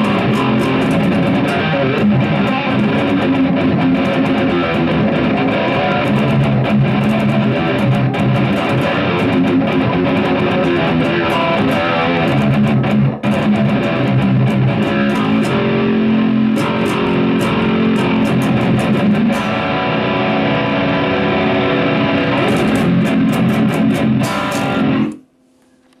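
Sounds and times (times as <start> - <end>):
electric guitar riffing: 0.0 - 25.2.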